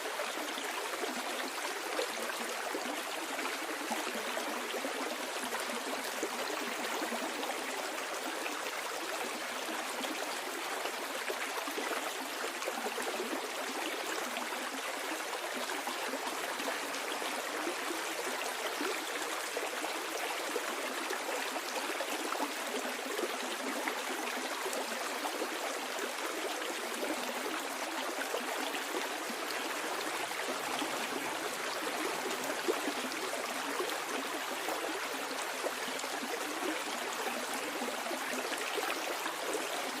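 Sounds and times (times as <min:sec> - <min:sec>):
stream flowing over stones: 0:00.0 - 0:40.0.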